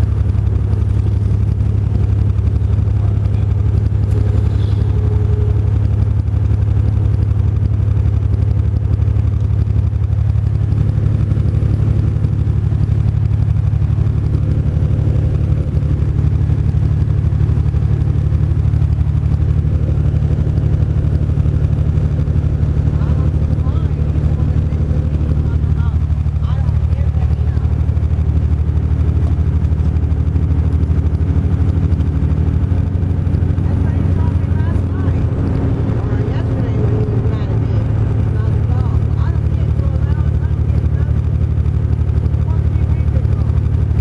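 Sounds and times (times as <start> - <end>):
truck engine droning: 0.0 - 44.0.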